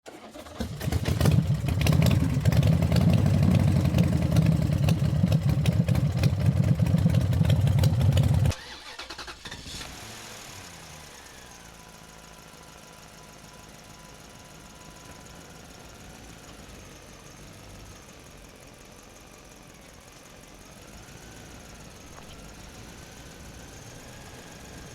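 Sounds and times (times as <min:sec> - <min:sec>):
engine running with clattering beat: 0:00.6 - 0:08.5, 0:11.7 - 0:24.9.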